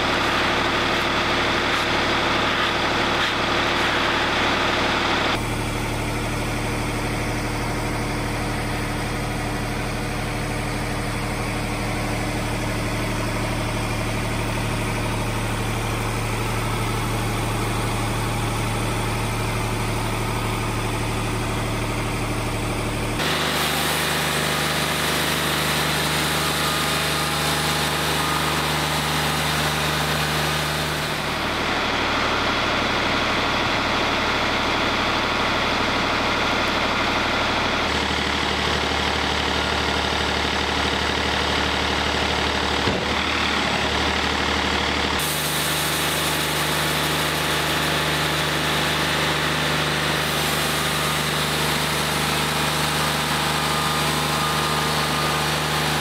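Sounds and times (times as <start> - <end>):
sawmill engine idling: 0.0 - 56.0.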